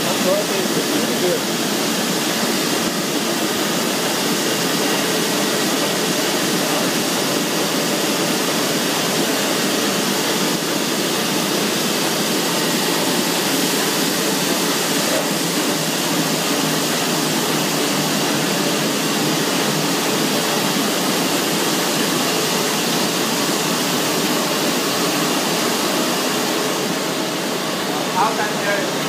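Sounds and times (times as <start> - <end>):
printing presses running: 0.0 - 29.0.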